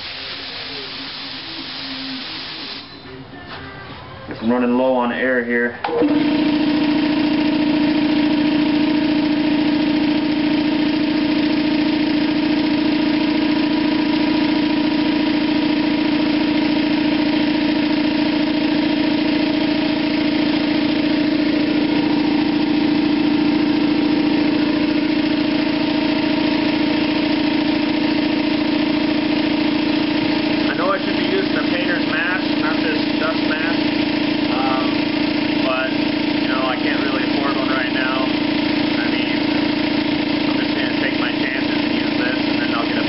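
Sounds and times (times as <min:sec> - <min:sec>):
air compressor running: 0:00.0 - 0:03.3, 0:05.8 - 0:43.0.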